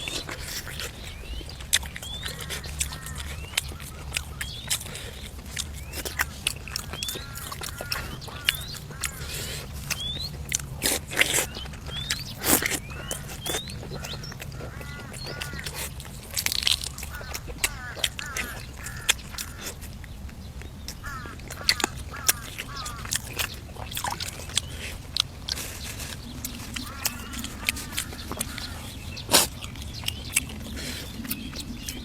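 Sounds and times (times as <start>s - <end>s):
person crunching and chewing: 0.0s - 32.0s
small birds chirping: 0.0s - 32.0s.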